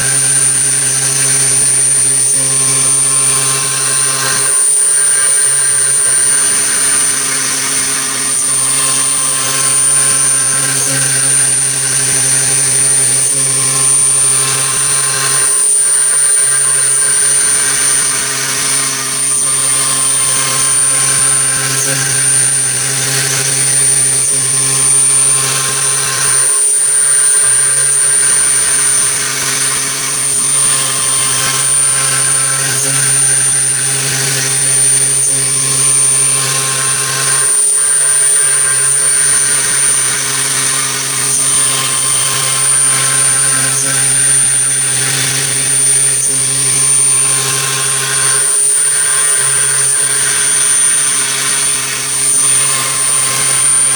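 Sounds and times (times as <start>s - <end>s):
cnc machine running with high whine: 0.0s - 53.9s.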